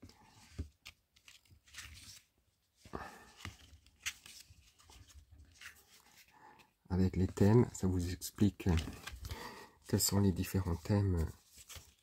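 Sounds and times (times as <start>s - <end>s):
paper rustling and crinkling: 0.0s - 7.7s, 8.4s - 12.0s.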